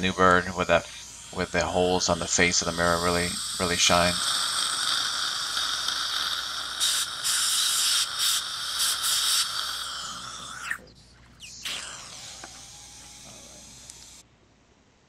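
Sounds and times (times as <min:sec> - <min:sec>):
dental suction hissing: 0:00.0 - 0:14.2
slurping spurts: 0:00.0 - 0:14.2.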